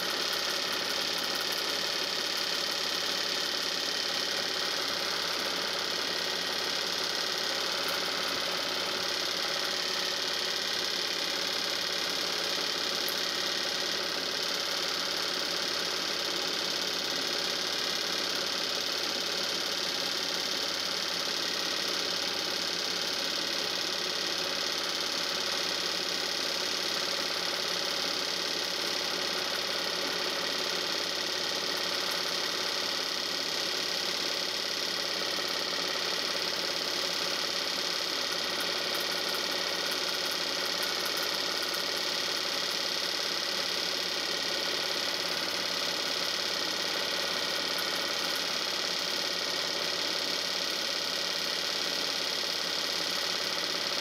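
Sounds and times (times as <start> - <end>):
film projector whirring clatter: 0.0 - 54.0.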